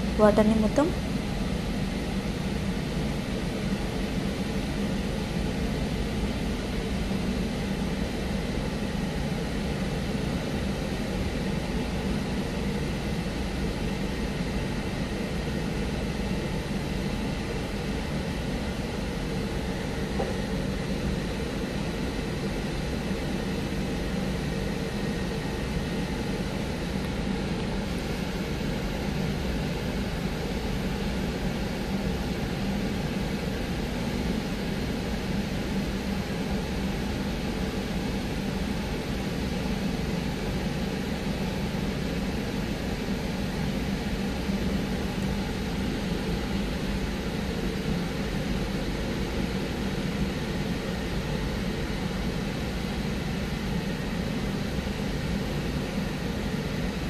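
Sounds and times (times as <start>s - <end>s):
car wash drying blowers roaring: 0.0s - 57.0s.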